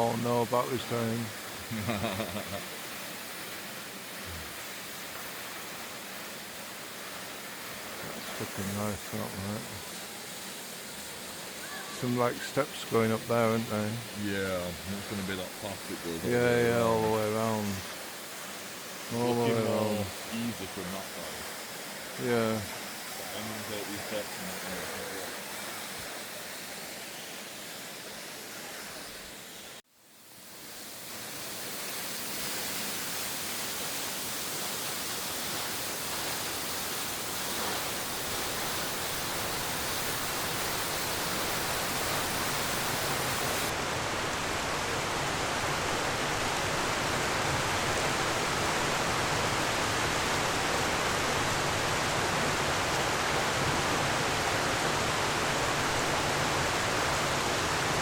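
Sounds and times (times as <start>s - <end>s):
waterfall rushing: 0.0s - 29.8s, 30.4s - 58.0s.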